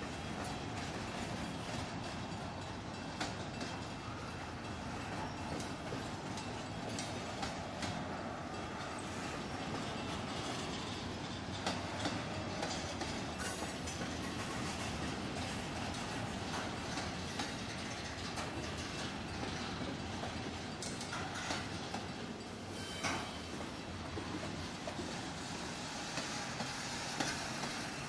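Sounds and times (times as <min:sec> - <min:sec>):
steel wheels rumbling on rail: 0:00.0 - 0:28.0
wheels and couplings clanking: 0:00.0 - 0:28.0.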